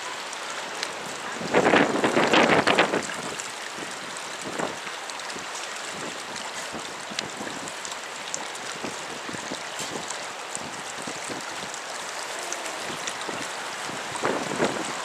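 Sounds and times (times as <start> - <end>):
churning water rushing: 0.0 - 15.0
small water splashes: 0.0 - 15.0.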